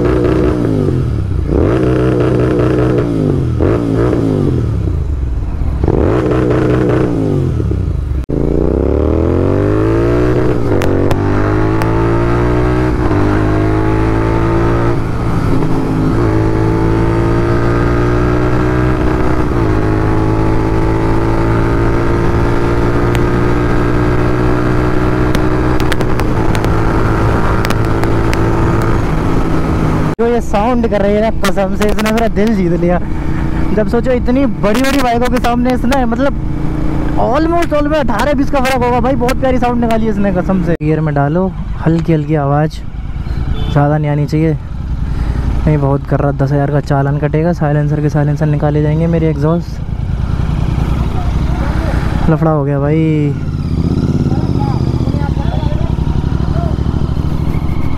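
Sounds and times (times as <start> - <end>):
motorcycle engine revving: 0.0 - 42.2, 42.8 - 57.9.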